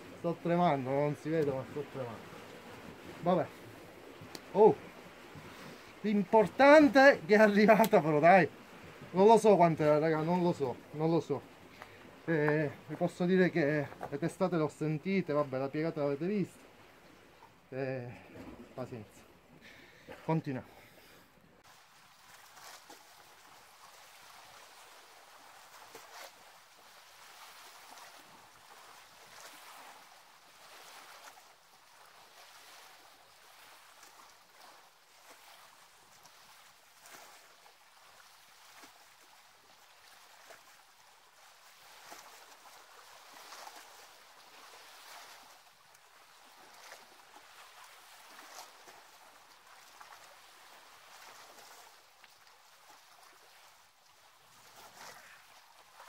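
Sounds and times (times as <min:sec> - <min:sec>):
small waves lapping on rocks: 0:00.0 - 0:56.0.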